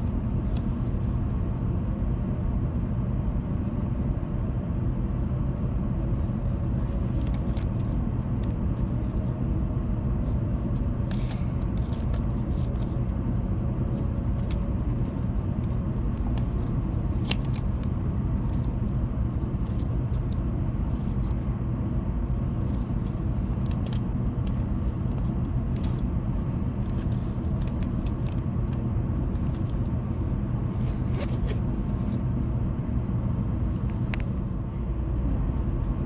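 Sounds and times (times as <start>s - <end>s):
train rumble inside passenger car: 0.0s - 36.0s.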